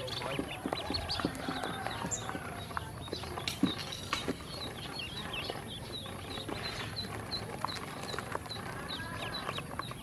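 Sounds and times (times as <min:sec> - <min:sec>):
bills tapping plastic basin: 0:00.0 - 0:10.0
ducklings peeping: 0:00.0 - 0:10.0.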